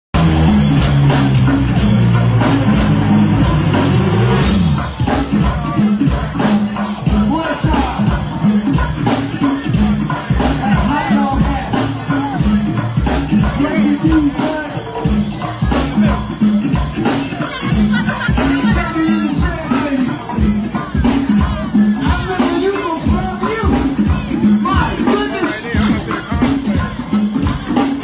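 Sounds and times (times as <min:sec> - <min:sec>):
drum conga and bass groove: 0:00.2 - 0:28.0
live band playing over speakers: 0:00.2 - 0:28.0.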